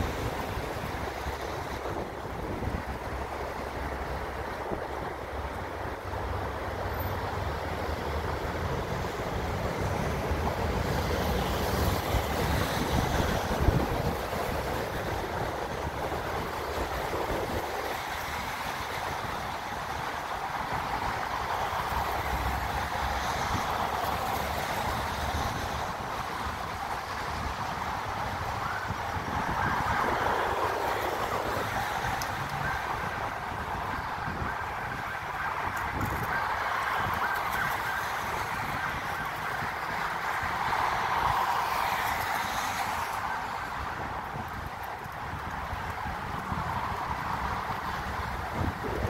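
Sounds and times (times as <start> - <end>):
traffic passing: 0.0 - 49.0
wind rumbling on microphone: 0.0 - 49.0.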